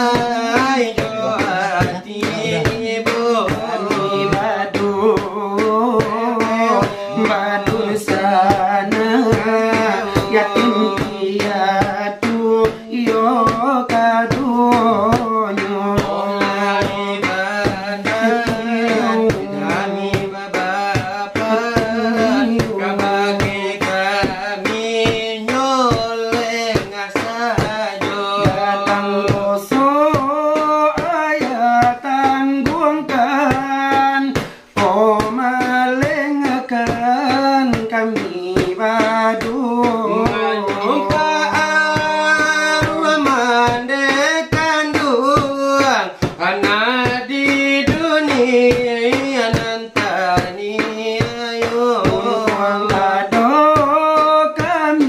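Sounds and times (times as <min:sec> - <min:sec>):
devotional singing: 0:00.0 - 0:55.0
hand tapping metal tray: 0:00.0 - 0:55.0.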